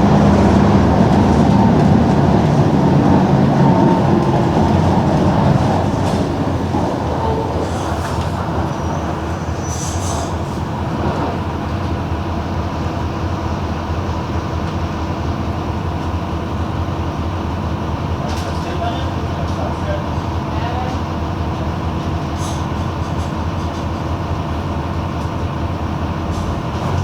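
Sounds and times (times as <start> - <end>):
bus diesel engine running: 0.0 - 27.0.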